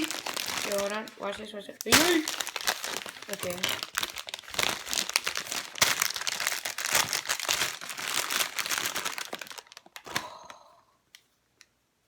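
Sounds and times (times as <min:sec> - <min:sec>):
packaging crinkling and tearing: 0:00.0 - 0:10.5.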